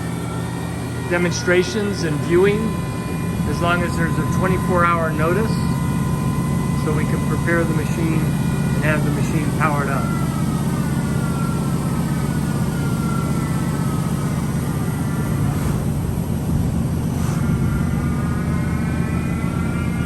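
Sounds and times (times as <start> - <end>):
high motor whine: 0.0 - 20.0
machinery hum: 0.0 - 20.0.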